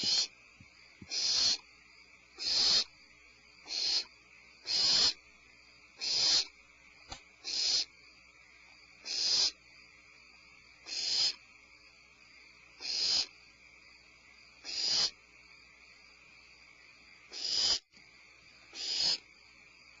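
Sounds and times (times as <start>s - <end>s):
barn owl raspy calls: 0.0s - 0.4s, 1.0s - 6.6s, 7.4s - 15.9s, 16.6s - 17.9s, 18.6s - 19.4s.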